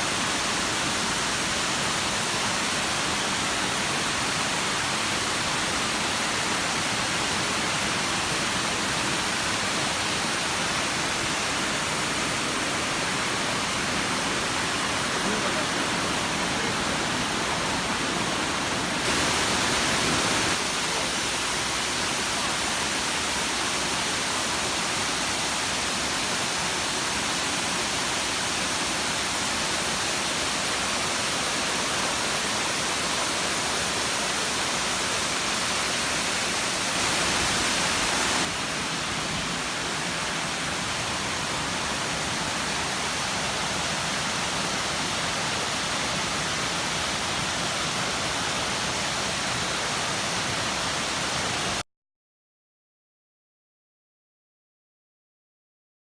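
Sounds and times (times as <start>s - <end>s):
waterfall rushing: 0.0s - 51.8s.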